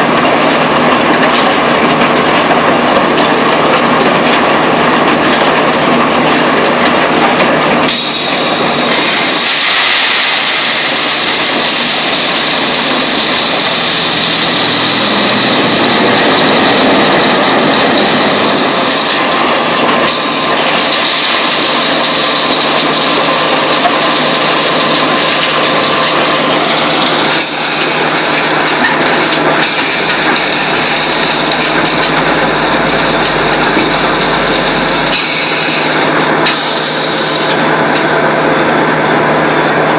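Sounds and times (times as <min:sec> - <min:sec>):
heavy machinery rattling clatter: 0:00.0 - 0:39.9.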